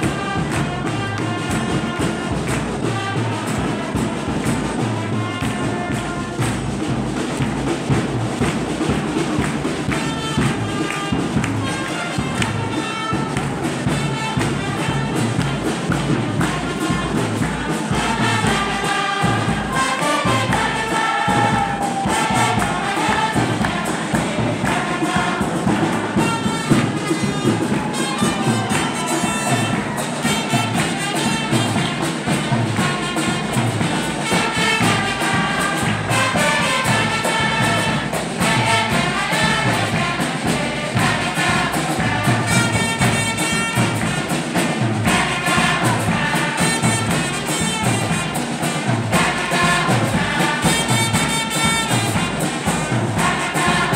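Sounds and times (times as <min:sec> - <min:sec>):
congregation and choir singing a hymn: 0:00.0 - 0:53.9
hand clapping: 0:00.0 - 0:53.9
steady drum beat: 0:00.0 - 0:53.9.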